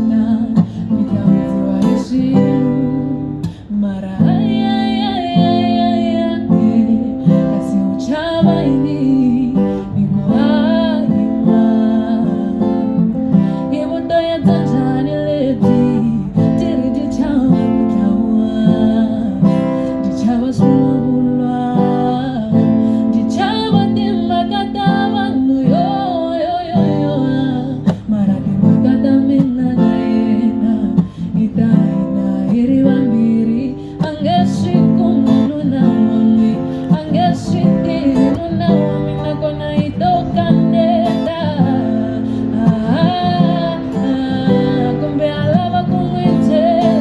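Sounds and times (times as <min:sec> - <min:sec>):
acoustic guitar: 0:00.0 - 0:47.0
person singing: 0:00.0 - 0:47.0.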